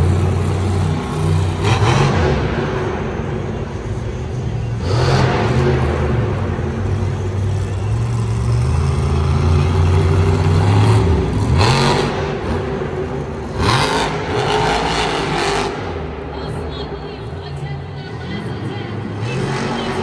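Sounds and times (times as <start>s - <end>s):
truck engine revving: 0.0s - 16.4s, 18.1s - 20.0s.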